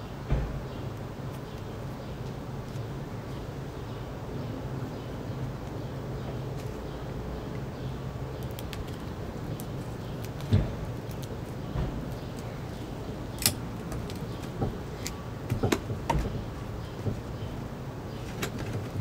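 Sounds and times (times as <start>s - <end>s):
low outdoor background hum: 0.0s - 19.0s.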